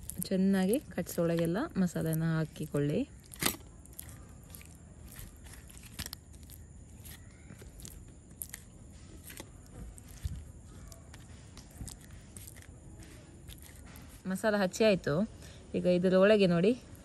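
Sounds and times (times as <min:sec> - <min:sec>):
fingers squishing wet paste: 0:00.0 - 0:14.5.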